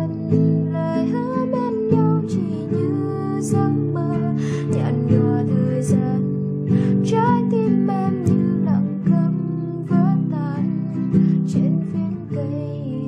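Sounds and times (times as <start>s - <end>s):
fingerstyle nylon-string guitar: 0.0s - 13.0s.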